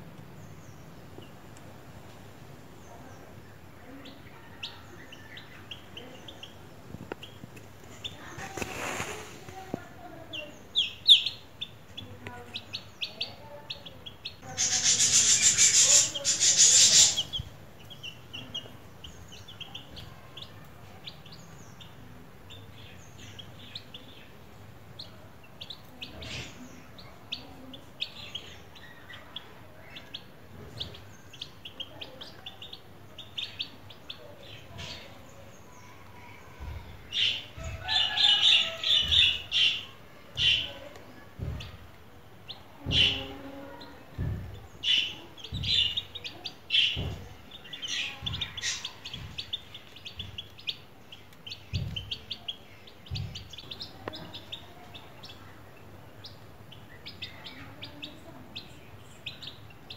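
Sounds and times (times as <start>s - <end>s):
chick peeping: 2.8s - 59.9s.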